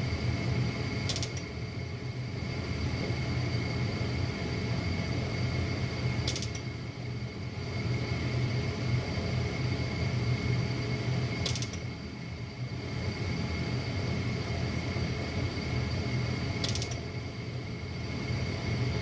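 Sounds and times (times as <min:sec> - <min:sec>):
furnace humming: 0:00.0 - 0:19.0
thin steady whine: 0:00.0 - 0:19.0.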